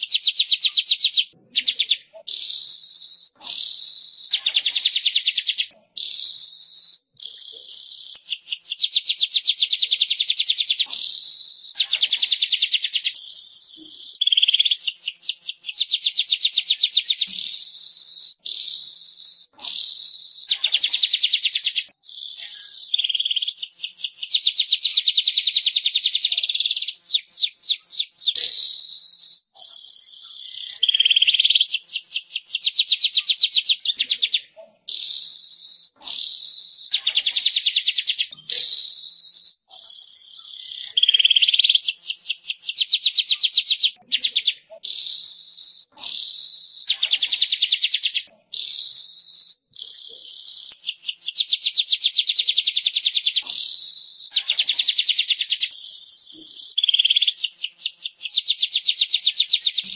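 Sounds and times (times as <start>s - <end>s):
bird ticking and buzzing song: 0.0s - 59.9s.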